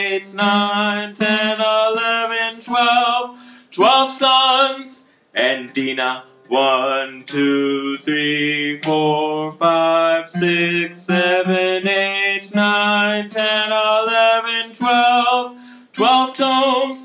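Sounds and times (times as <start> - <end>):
acoustic guitar: 0.0 - 17.0
man singing a rising scale: 0.0 - 17.0.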